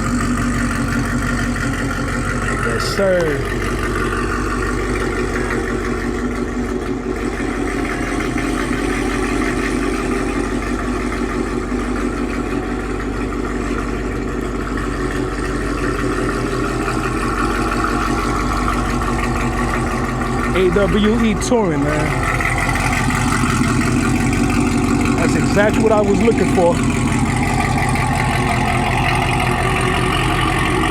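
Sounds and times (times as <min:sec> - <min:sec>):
engine running steadily: 0:00.0 - 0:30.9.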